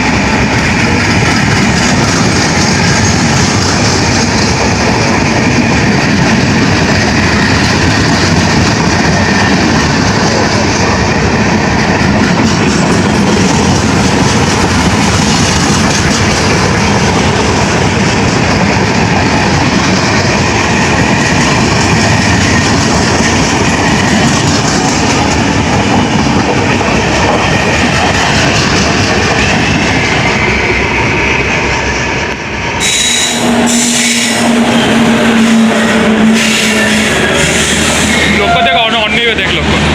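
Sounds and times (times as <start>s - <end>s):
train running past on rails: 0.0s - 39.9s.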